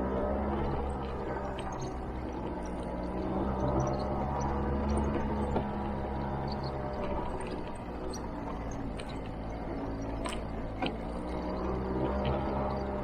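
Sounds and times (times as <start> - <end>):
motor scooter engine running: 0.0 - 13.0.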